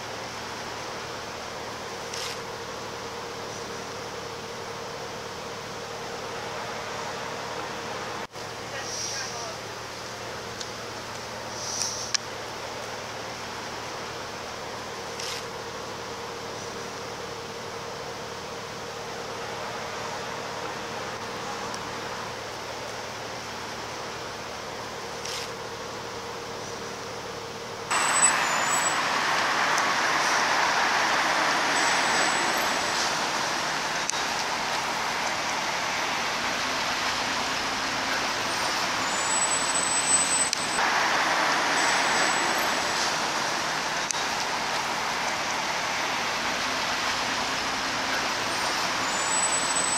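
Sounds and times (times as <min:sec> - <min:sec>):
vehicles passing on a road: 0:00.0 - 0:49.9.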